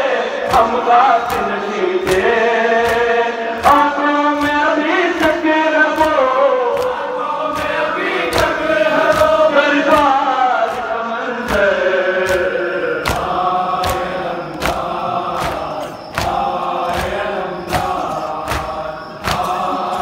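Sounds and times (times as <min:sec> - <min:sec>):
men chanting in unison: 0:00.0 - 0:20.0
chest-beating slaps: 0:00.4 - 0:04.6, 0:06.0 - 0:20.0.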